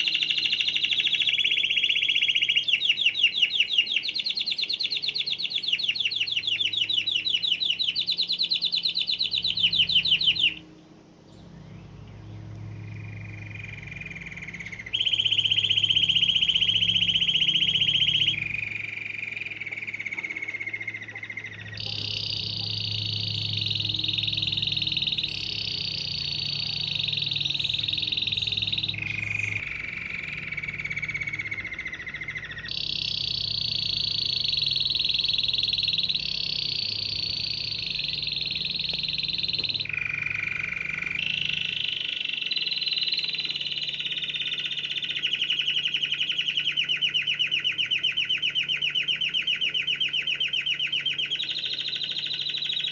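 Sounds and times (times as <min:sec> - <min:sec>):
canary singing trills: 0:00.0 - 0:52.9
faint low hum: 0:00.0 - 0:52.9.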